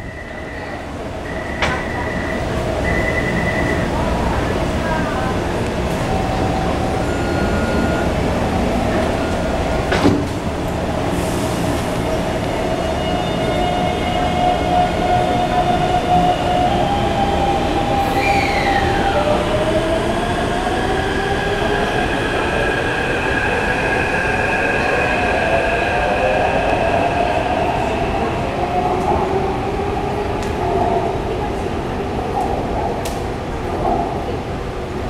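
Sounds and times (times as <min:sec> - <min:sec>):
train wheel and rail noise: 0:00.0 - 0:35.0.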